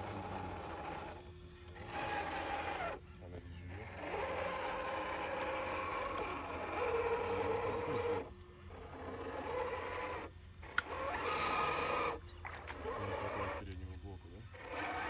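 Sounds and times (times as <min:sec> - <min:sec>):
electric motor and gearbox whining: 0:00.0 - 0:15.0.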